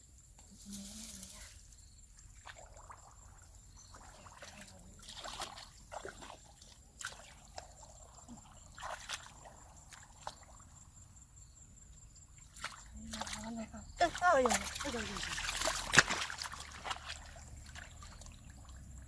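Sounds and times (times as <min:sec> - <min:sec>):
water sloshing and trickling: 0:00.5 - 0:19.0.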